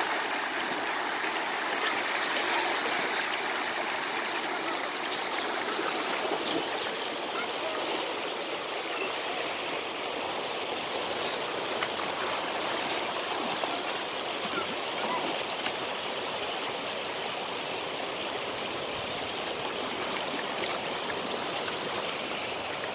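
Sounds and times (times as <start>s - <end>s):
water rushing over spillway: 0.0s - 22.9s.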